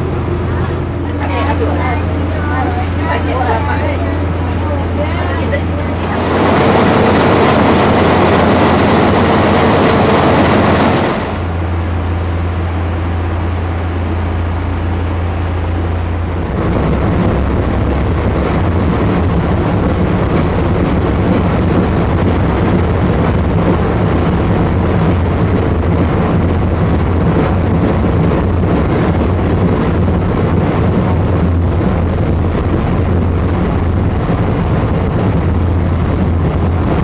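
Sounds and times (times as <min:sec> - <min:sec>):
diesel locomotive humming: 0:00.0 - 0:37.0
train running noise: 0:00.0 - 0:37.0.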